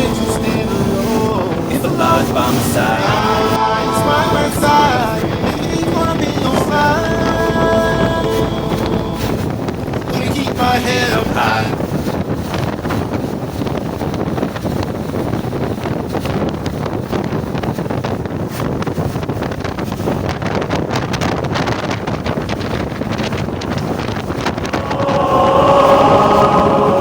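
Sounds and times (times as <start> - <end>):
water and boat noise: 0.0 - 27.0
wind buffeting microphone: 0.0 - 27.0.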